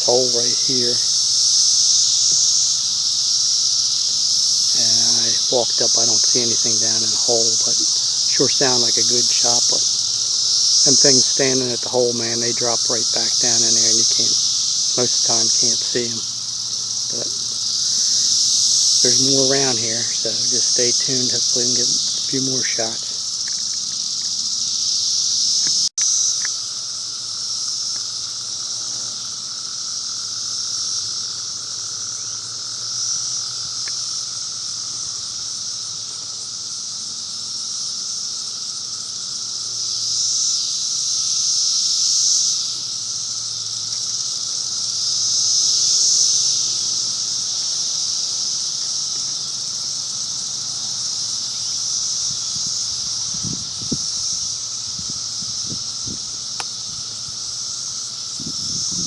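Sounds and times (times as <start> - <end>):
insects buzzing: 0.0 - 59.0.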